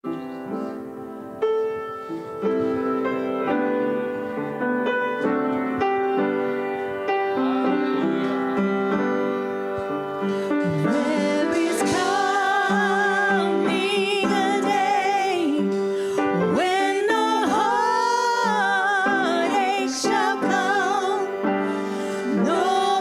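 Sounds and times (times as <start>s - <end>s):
piano playing slow chords: 0.0s - 23.0s.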